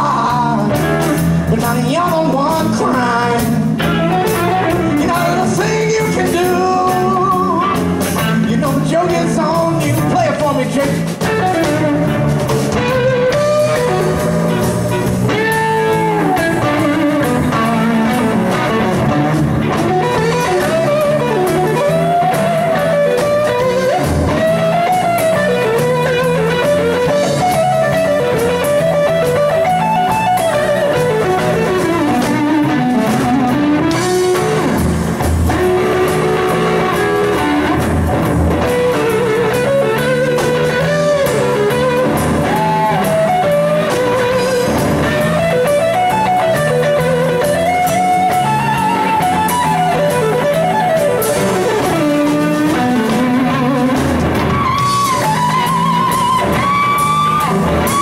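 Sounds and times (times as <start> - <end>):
bass: 0.0 - 58.0
drums: 0.0 - 58.0
electric blues guitar solo: 0.0 - 58.0.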